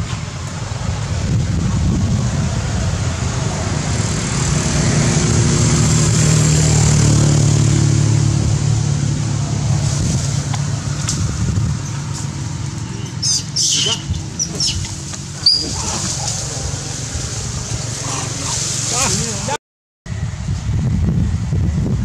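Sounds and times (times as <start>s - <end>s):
vehicle engine passing: 0.0s - 21.8s.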